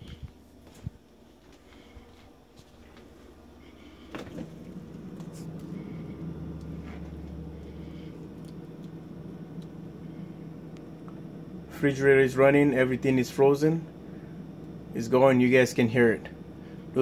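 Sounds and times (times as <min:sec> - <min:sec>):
freezer humming: 0:00.0 - 0:17.0.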